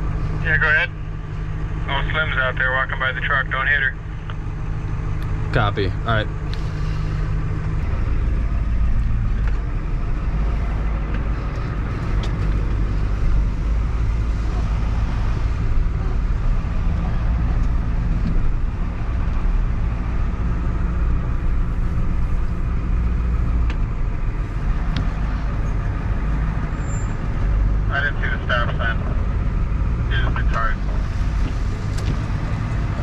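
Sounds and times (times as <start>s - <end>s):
engine and road rumble in cabin: 0.0s - 33.0s.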